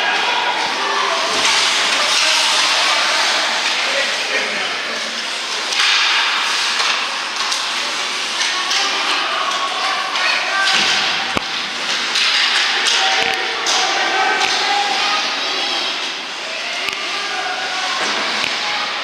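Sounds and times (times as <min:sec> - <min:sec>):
spectators chattering: 0:00.0 - 0:19.0.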